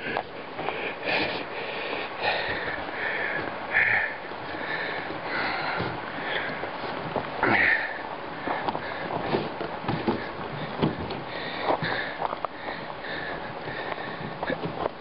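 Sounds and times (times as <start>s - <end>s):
man breathing hard: 0.0s - 14.9s.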